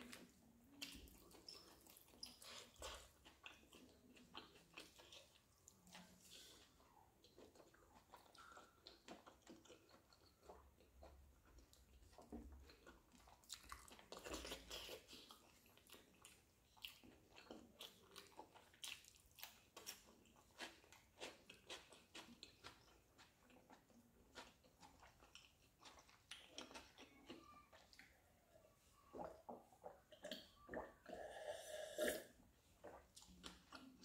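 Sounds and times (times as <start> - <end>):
chewing and biting: 0.0 - 28.2, 32.7 - 34.0.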